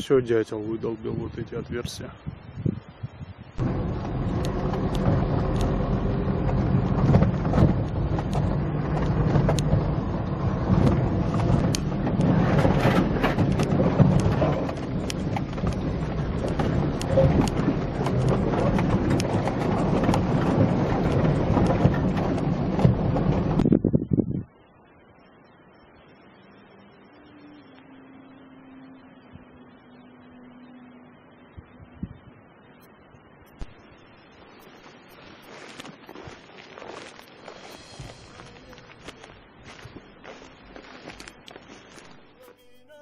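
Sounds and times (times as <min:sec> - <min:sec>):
car engine and tyres rumbling: 0:00.0 - 0:42.6.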